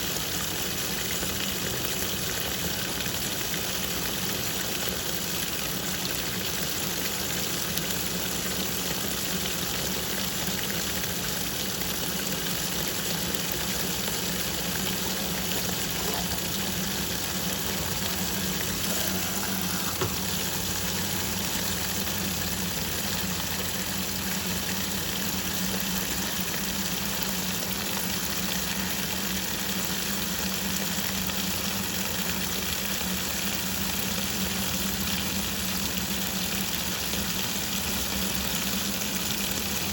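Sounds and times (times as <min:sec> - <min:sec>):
washing machine churning water: 0:00.0 - 0:39.9.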